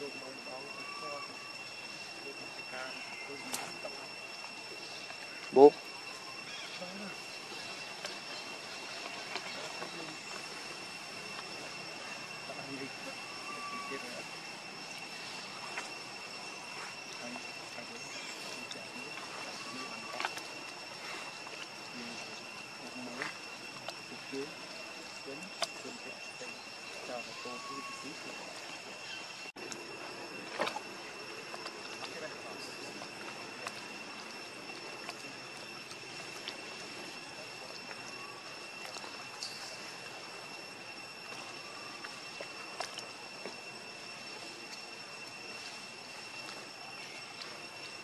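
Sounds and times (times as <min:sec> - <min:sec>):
high-pitched insect drone: 0:00.0 - 0:48.0.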